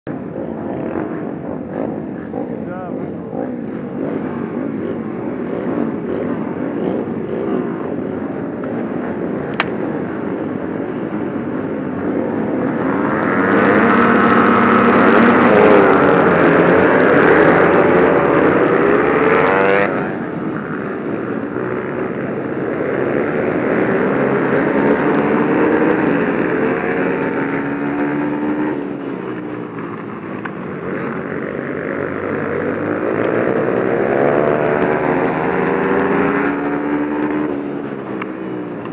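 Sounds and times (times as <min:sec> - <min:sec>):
motorcycle engine revving: 0:00.1 - 0:38.9.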